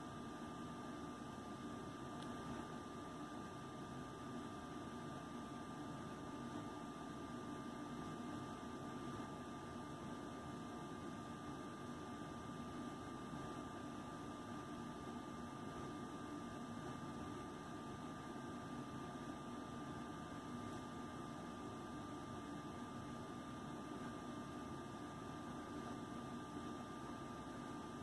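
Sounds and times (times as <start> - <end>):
room hum and hiss: 0.0 - 28.0.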